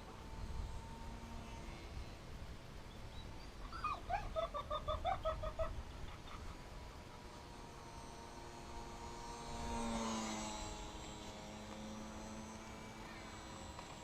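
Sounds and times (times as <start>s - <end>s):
model plane motor whining: 0.0s - 3.6s, 6.1s - 14.0s.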